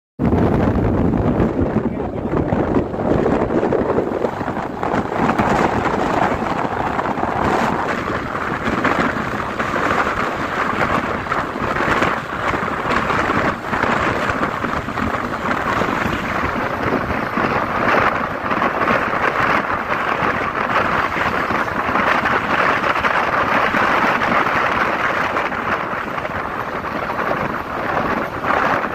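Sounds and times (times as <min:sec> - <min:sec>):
bus engine and road noise: 0:00.2 - 0:28.9
wind on microphone: 0:00.2 - 0:28.9.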